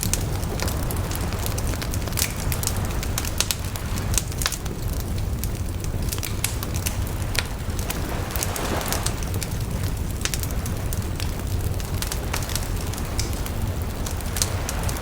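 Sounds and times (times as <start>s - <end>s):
flames rumbling: 0.0s - 15.0s
wood crackling and popping: 0.0s - 15.0s.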